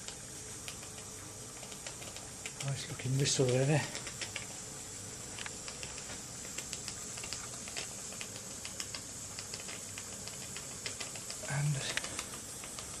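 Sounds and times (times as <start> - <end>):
light ticking and clicking: 0.0 - 4.6, 5.4 - 13.0.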